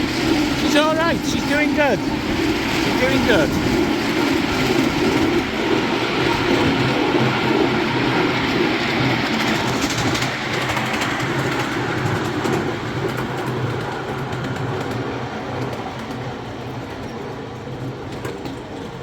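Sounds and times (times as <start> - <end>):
miniature train running on track: 0.0 - 19.0.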